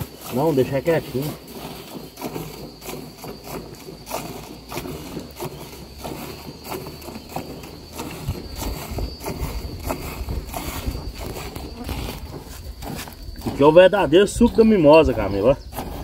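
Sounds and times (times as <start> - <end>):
milk squirting into pail: 0.0 - 14.4.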